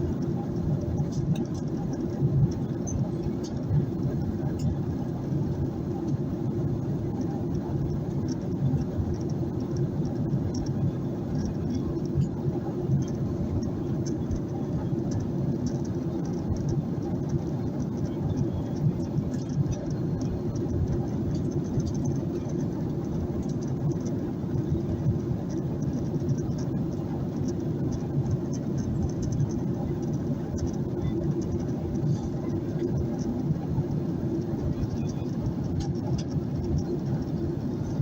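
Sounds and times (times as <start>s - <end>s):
airplane cabin engine rumble: 0.0s - 38.0s.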